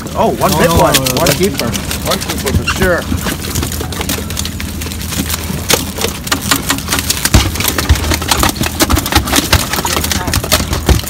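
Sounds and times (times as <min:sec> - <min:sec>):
boat engine idling: 0:00.0 - 0:11.0
clicks and knocks of net handling: 0:00.0 - 0:11.0
lobsters clattering against mesh: 0:00.0 - 0:11.0.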